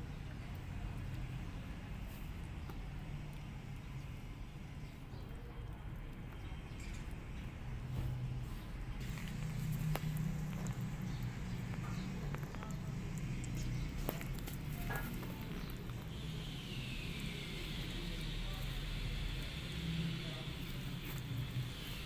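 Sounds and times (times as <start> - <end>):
kittens chewing and licking: 0.0 - 22.0.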